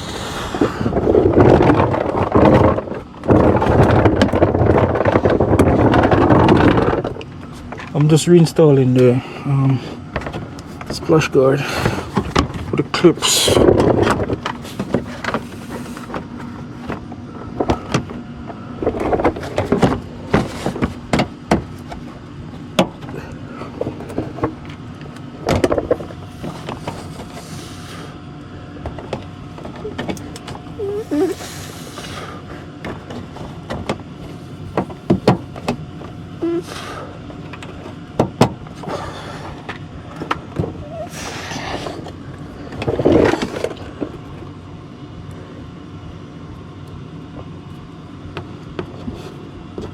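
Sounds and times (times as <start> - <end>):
steady background hum: 0.0 - 49.9.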